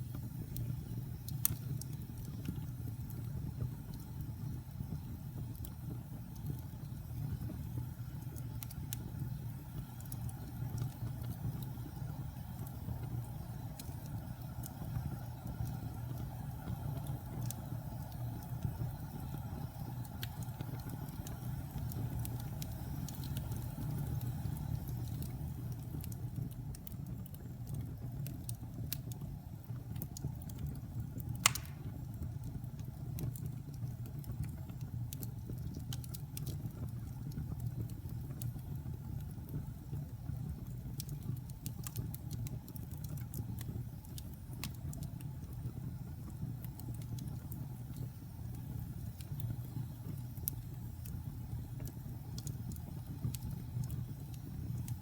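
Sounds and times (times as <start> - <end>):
wood fire burning and crackling: 0.0 - 55.0.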